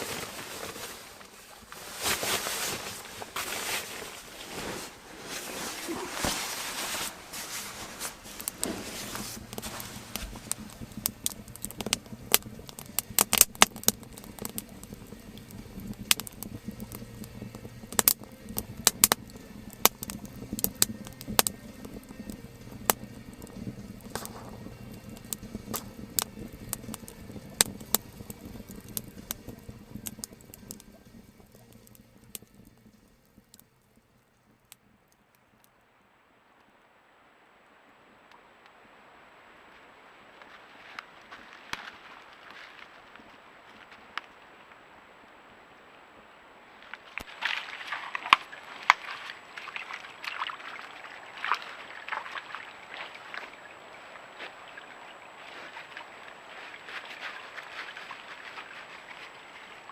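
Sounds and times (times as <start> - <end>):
wood fire crackling and popping: 0.0 - 35.8, 39.6 - 45.2, 46.1 - 59.9
low steady hum: 0.0 - 59.9.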